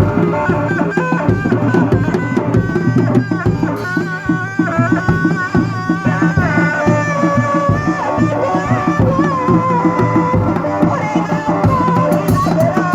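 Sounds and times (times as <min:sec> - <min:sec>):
hand drums fast rhythm: 0:00.0 - 0:12.9
high wavering melody: 0:00.0 - 0:12.9.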